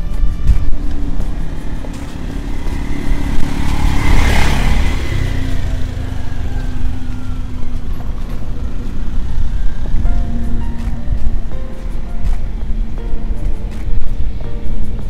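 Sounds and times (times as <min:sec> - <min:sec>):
steady low rumble: 0:00.0 - 0:15.0
vehicle engine passing: 0:00.1 - 0:15.0.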